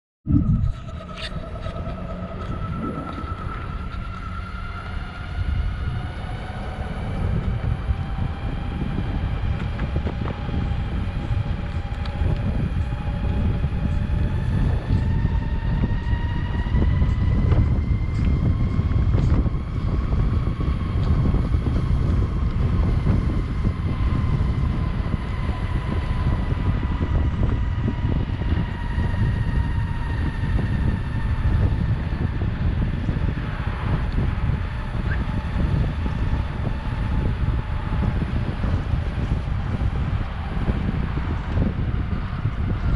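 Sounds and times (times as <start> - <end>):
electric motor whining: 0.3 - 42.9.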